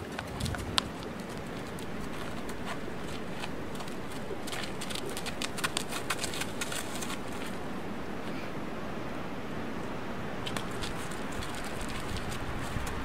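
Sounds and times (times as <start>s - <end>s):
hooves clicking on dirt: 0.0s - 7.8s, 10.4s - 13.0s
steady outdoor hiss: 0.0s - 13.0s.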